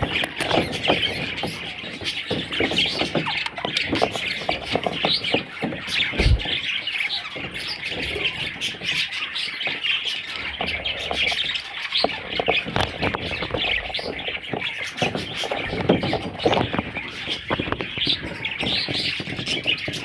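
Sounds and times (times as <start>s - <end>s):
budgerigars chattering and squawking: 0.0s - 20.0s.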